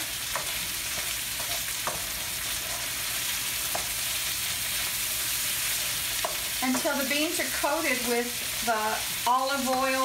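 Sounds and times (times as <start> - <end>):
vegetables sizzling in a frying pan: 0.0 - 10.0.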